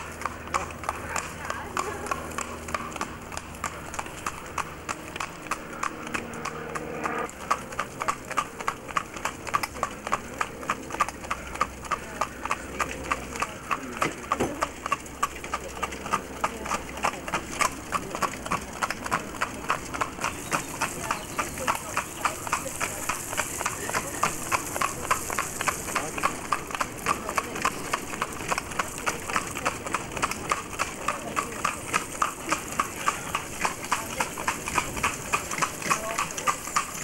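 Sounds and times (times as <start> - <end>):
hooves clip-clopping on tarmac: 0.0 - 37.0.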